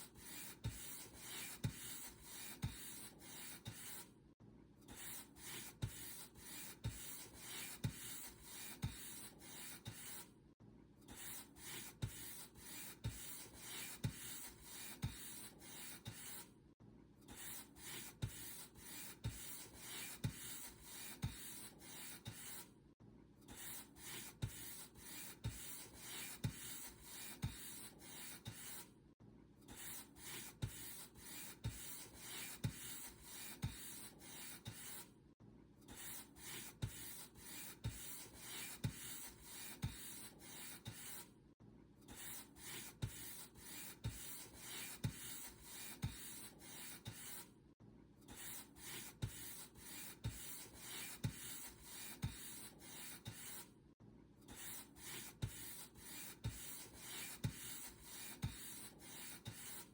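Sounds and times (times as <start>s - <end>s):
paint brush stroking a surface: 0.1s - 4.1s, 5.0s - 10.2s, 11.2s - 16.4s, 17.4s - 22.7s, 23.6s - 28.9s, 29.8s - 35.1s, 36.0s - 41.3s, 42.1s - 47.5s, 48.4s - 53.7s, 54.5s - 59.9s.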